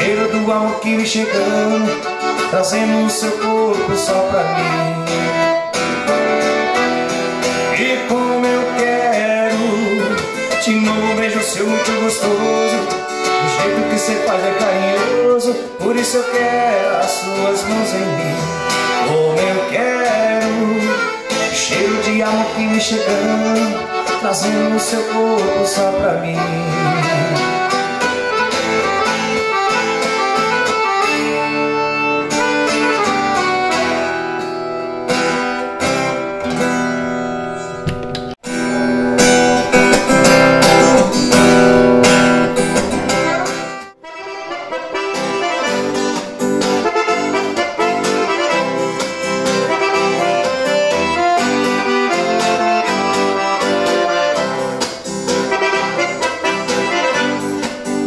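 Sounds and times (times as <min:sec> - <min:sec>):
accordion music: 0:00.0 - 0:58.0
plucked guitar: 0:00.0 - 0:58.0.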